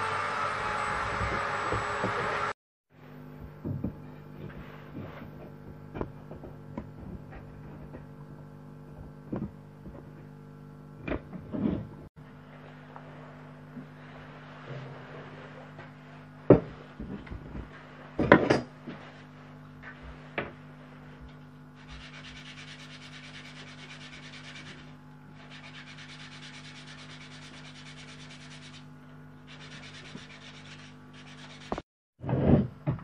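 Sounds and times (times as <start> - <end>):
low electrical hum: 3.0 - 33.0.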